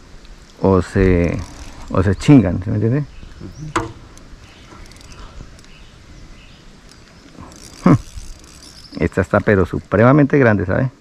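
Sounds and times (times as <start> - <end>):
faint rural outdoor background: 0.0 - 11.0.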